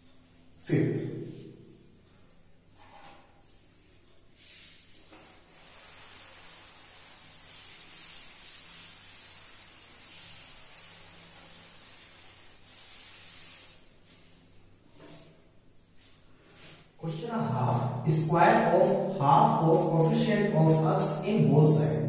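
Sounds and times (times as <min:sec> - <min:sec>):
duster wiping chalkboard: 0:02.8 - 0:15.4, 0:16.0 - 0:21.9.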